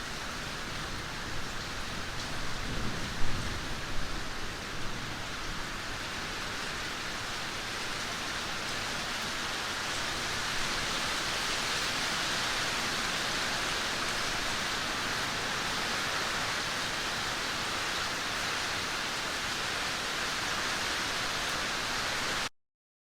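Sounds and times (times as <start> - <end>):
heavy rain falling: 0.0 - 22.5.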